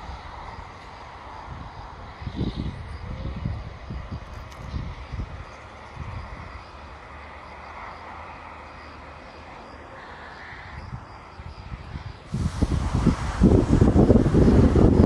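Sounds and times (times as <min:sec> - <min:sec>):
approaching train: 0:00.0 - 0:15.0
gusty wind rumble: 0:00.0 - 0:15.0
low train rumble: 0:00.0 - 0:15.0
steady outdoor noise: 0:00.0 - 0:15.0.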